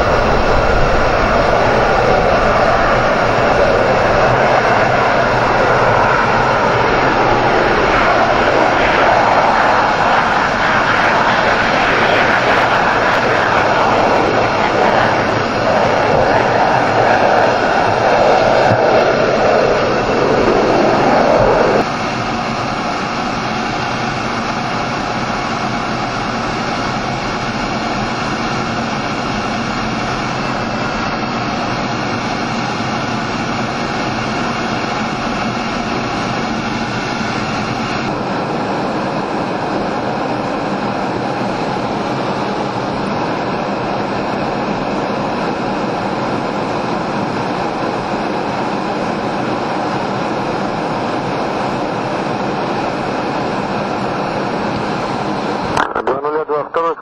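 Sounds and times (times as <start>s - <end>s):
jet engines roaring at high power: 0.0s - 57.0s.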